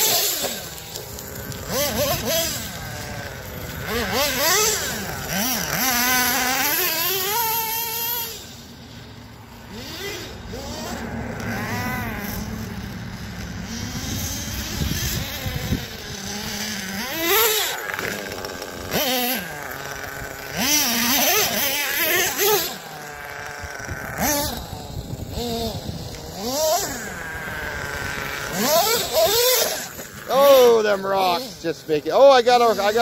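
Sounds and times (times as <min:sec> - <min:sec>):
model truck engine revving: 0:00.0 - 0:33.0.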